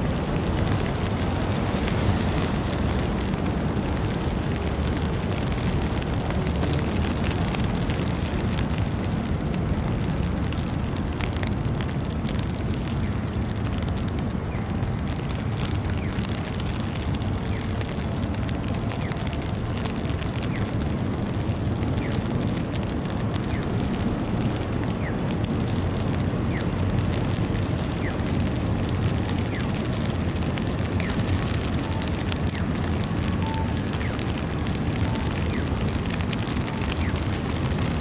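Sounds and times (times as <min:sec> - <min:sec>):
city street traffic rumble: 0:00.0 - 0:38.0.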